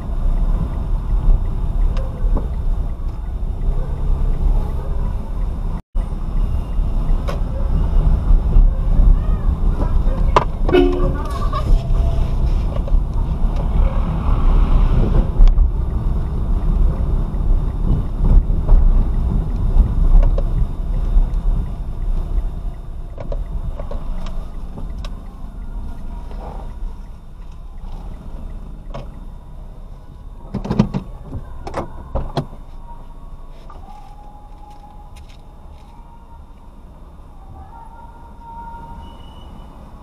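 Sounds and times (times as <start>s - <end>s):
road and engine rumble in car: 0.0s - 40.0s.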